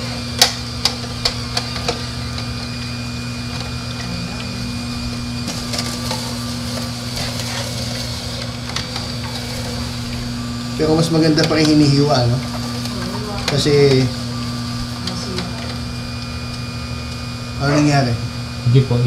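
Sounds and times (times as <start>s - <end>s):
juicer motor humming: 0.0s - 19.0s.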